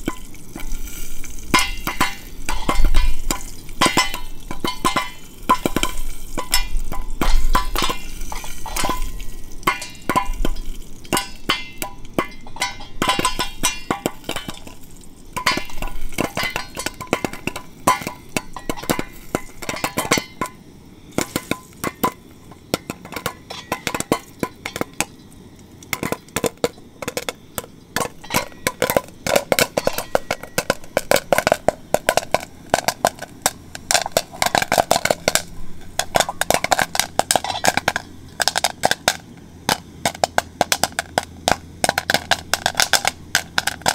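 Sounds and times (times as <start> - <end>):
utensil clinking on metal pot: 0.0 - 20.6, 21.2 - 43.9.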